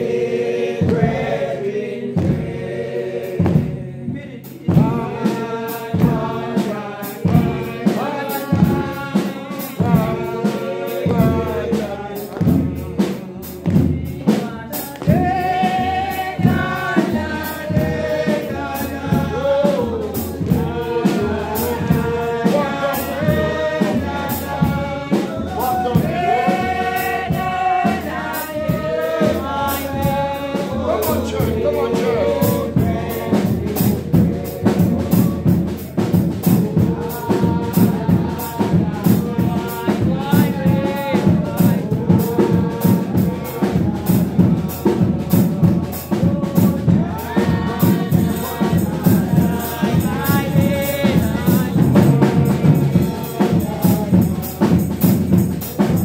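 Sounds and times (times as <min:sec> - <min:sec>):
group singing gospel song: 0:00.0 - 0:56.0
steady beat: 0:00.0 - 0:56.0.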